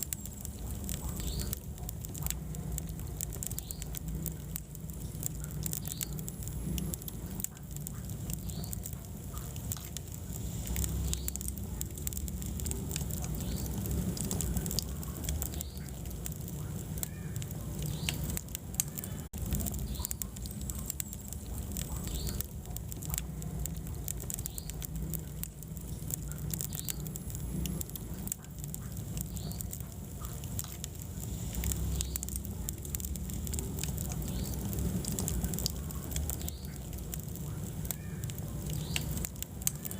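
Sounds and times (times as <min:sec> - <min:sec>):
faint whistle from burning wood: 0:00.0 - 0:39.9
fire crackling and popping: 0:00.0 - 0:39.9
fire rumbling: 0:00.0 - 0:39.9.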